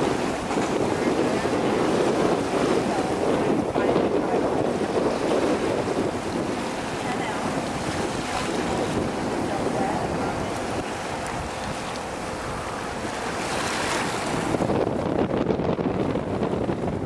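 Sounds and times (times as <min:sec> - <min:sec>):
water rushing around boat: 0:00.0 - 0:17.0
wind buffeting microphone: 0:00.0 - 0:17.0.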